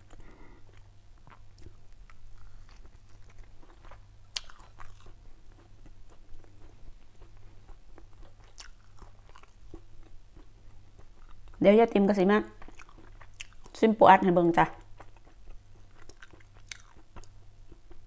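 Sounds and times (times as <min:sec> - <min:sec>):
person chewing: 0:00.0 - 0:11.6, 0:12.6 - 0:13.8, 0:14.8 - 0:18.0.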